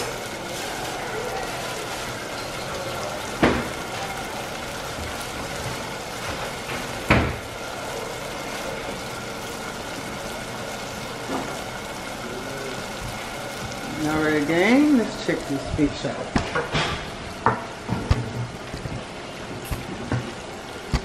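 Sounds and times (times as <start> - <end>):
pots sizzling on a stovetop: 0.0 - 21.0.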